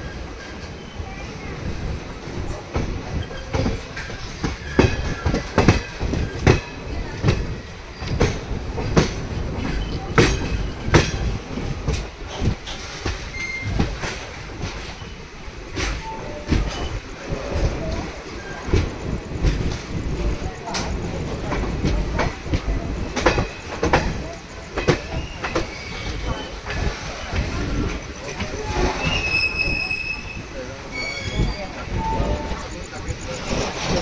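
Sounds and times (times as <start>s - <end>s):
train rolling rumble: 0.0s - 34.0s
train wheels clattering over rail joints: 0.0s - 34.0s.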